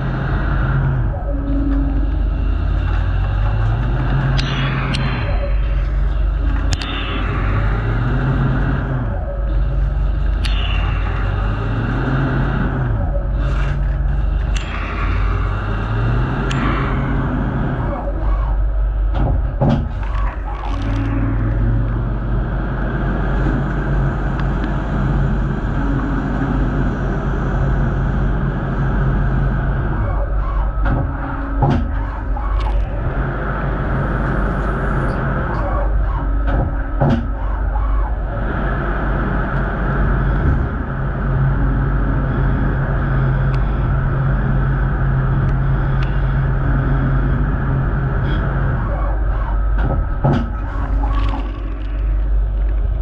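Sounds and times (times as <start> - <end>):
lathe spindle hum: 0.0 - 53.0.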